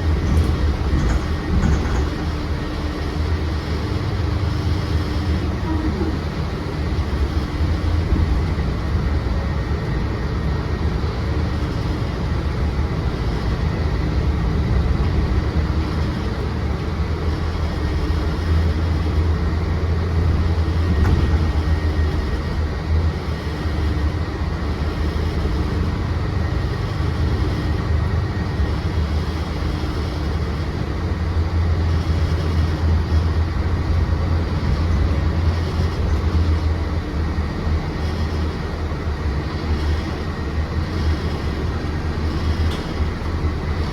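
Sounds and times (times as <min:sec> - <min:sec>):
bus engine rumble: 0:00.0 - 0:43.9
road noise: 0:00.0 - 0:43.9.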